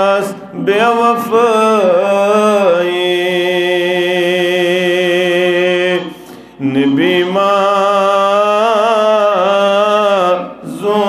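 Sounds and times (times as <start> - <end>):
man singing devotional verse: 0.0 - 11.0.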